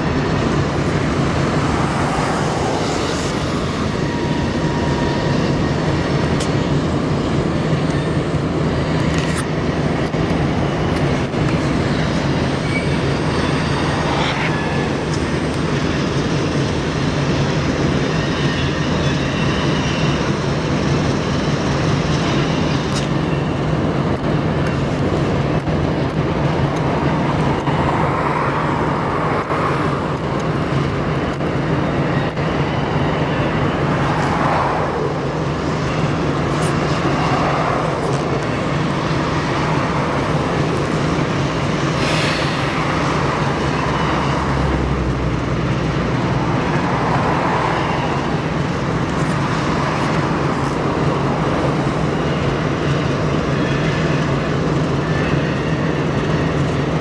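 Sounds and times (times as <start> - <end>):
freight train rumbling past: 0.0 - 57.0
train wheel noise: 0.0 - 57.0.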